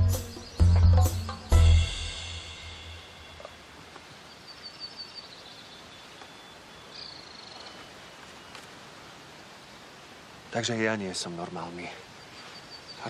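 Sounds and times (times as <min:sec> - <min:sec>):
small birds chirping: 0:00.0 - 0:01.7, 0:03.2 - 0:13.0.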